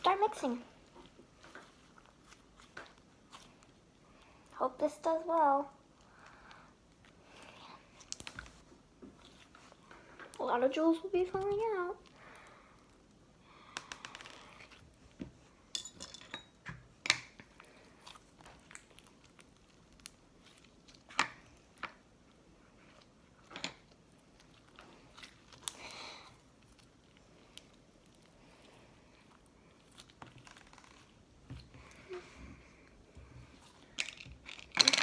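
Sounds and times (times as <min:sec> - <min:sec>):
slime squelching: 0:00.0 - 0:15.4, 0:17.4 - 0:34.7.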